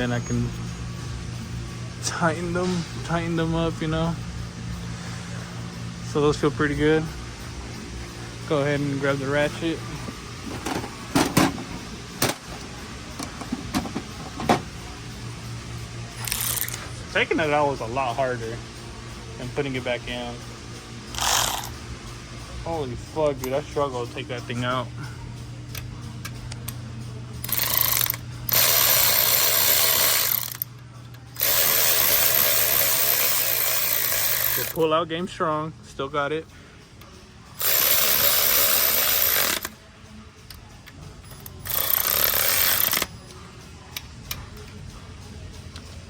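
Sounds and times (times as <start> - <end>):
cordless electric ratchet running: 0.0 - 35.0, 37.0 - 39.9, 41.4 - 44.8.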